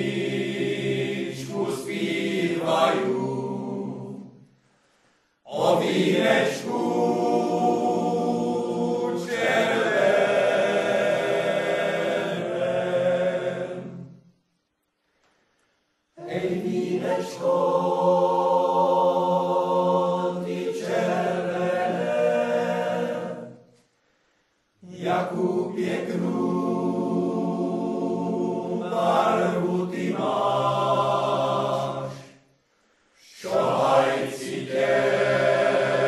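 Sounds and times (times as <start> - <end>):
men's choir singing a cappella: 0.0 - 4.4, 5.5 - 14.2, 16.2 - 23.7, 24.8 - 32.4, 33.2 - 36.0.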